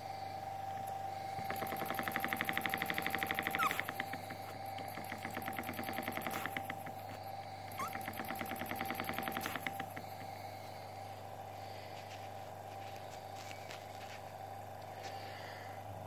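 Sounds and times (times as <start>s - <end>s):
hum and hiss of air: 0.0s - 16.0s.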